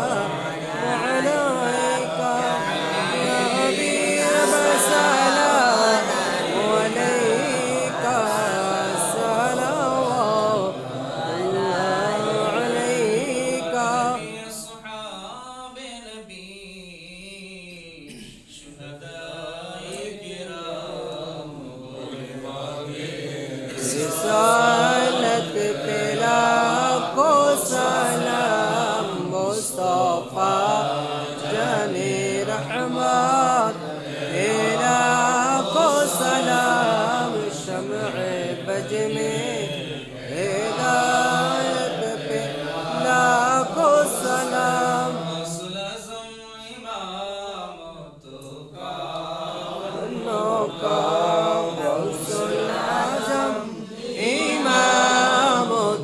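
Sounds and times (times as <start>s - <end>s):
men chanting devotional recitation: 0.0s - 56.0s.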